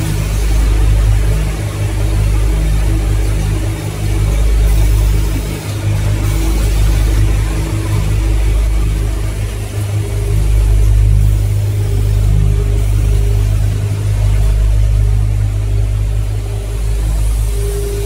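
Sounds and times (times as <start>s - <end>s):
machinery buzzing: 0.0s - 18.0s.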